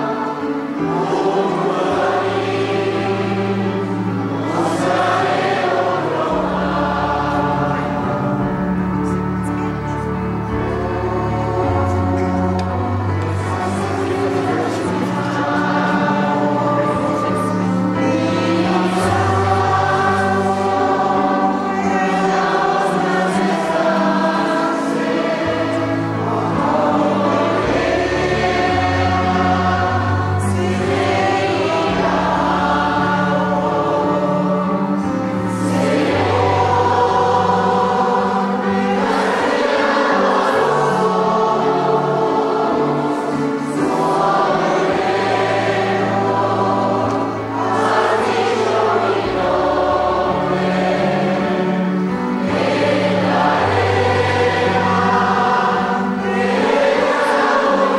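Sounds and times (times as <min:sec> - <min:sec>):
congregation singing a hymn: 0:00.0 - 0:57.9
low accompanying notes: 0:00.0 - 0:57.9.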